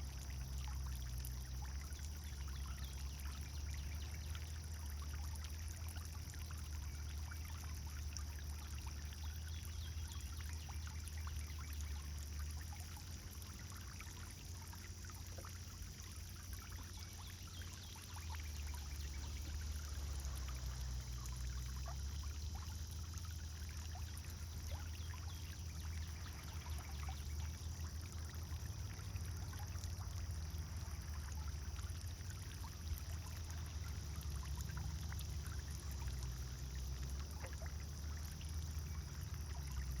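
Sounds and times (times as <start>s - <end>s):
fountain water splashing: 0.0s - 40.0s.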